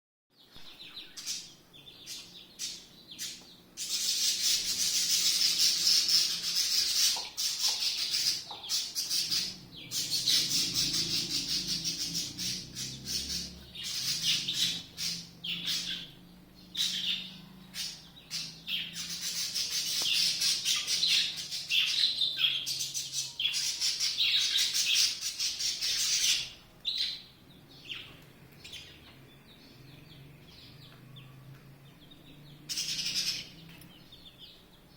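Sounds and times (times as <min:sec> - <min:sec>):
birds chirping chorus: 0:00.4 - 0:34.9.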